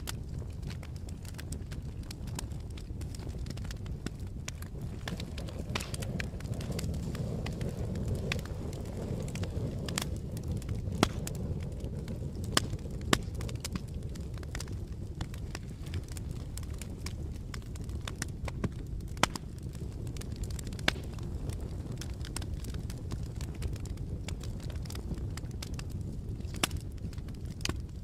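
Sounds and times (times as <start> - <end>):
burning wood crackling and popping: 0.0 - 28.0
low rumble of flames: 0.0 - 28.0.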